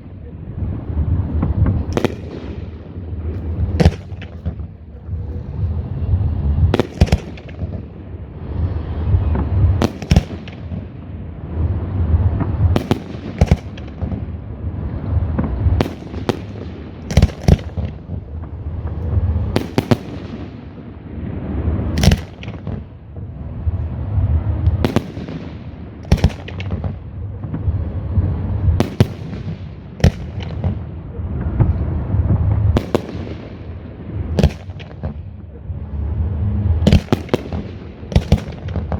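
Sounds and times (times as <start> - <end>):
fireworks crackle: 0.0 - 38.9
rumble of launches and booms: 0.0 - 38.9.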